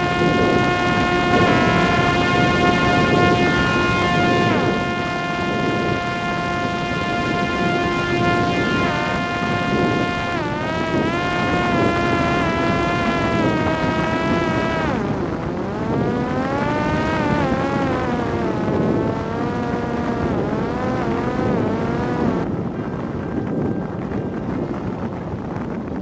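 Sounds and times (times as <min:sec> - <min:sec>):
drone propeller whining: 0:00.0 - 0:25.0.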